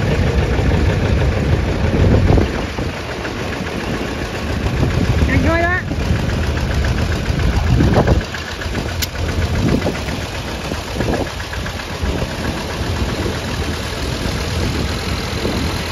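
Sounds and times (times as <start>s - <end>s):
tractor diesel engine rumbling: 0.0s - 15.9s.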